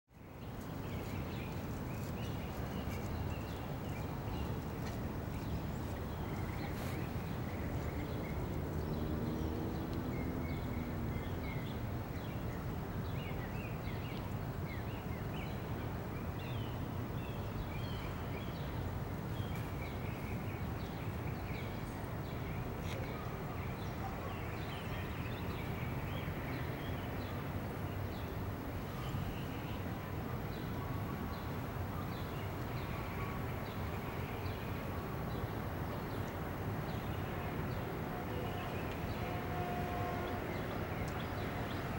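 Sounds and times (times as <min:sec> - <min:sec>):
low city rumble: 0:00.1 - 0:41.9.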